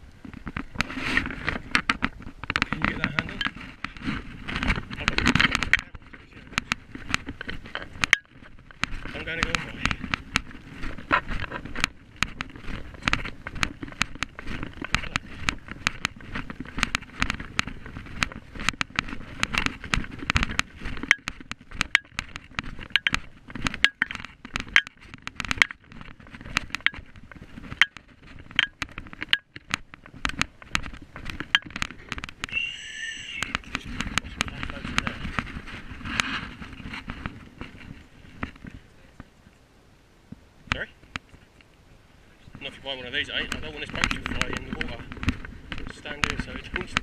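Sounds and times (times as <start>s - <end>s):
camera mount rattling and scraping: 0.2s - 32.5s, 33.4s - 38.8s, 43.2s - 47.0s.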